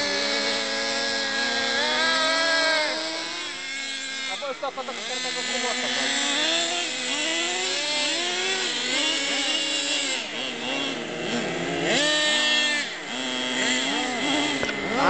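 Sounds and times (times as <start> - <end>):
rc car motors revving: 0.0 - 15.0.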